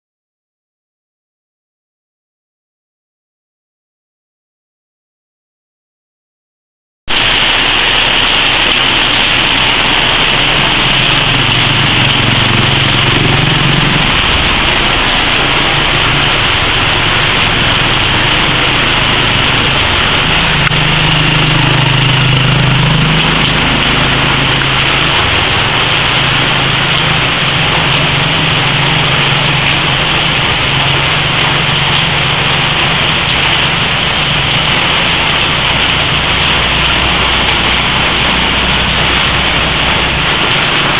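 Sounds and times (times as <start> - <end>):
heavy rain hissing: 7.1 - 40.9
low hum of motor engines: 7.6 - 40.9.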